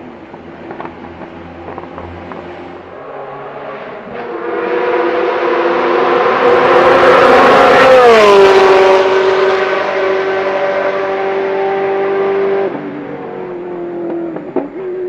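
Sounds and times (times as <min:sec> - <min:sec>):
sports car engine passing at high revs: 0:00.7 - 0:15.0.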